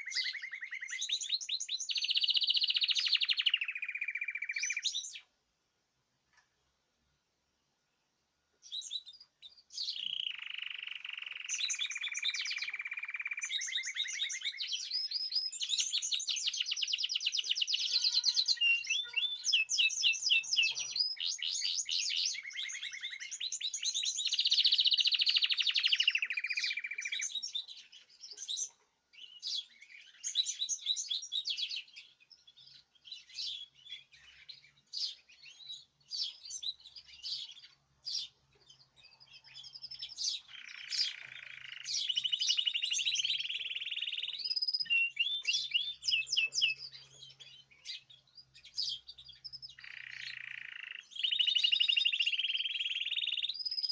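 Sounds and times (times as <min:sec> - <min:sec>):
songbirds trilling and chirping: 0:00.0 - 0:53.9.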